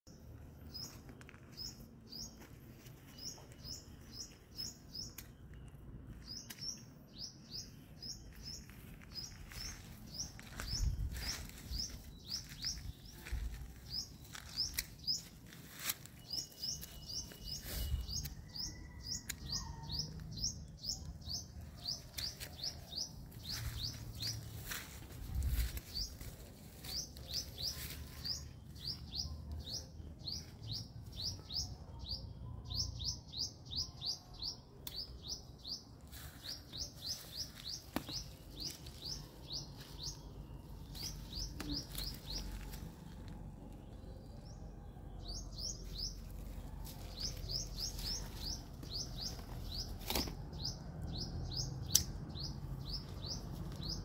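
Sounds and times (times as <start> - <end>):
bird chirping: 0.1 - 54.0.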